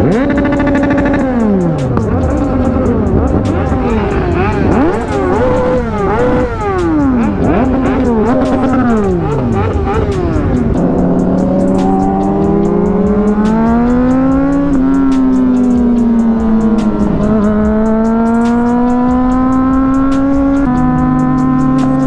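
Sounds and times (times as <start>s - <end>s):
motorcycle engine accelerating: 0.0s - 22.0s
other motorcycles running: 0.0s - 22.0s.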